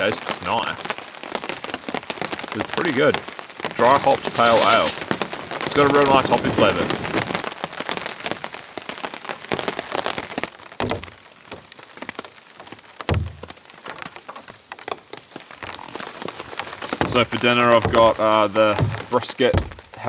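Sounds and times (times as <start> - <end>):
gentle rain falling: 0.0 - 20.0
raindrops ticking: 0.0 - 20.0.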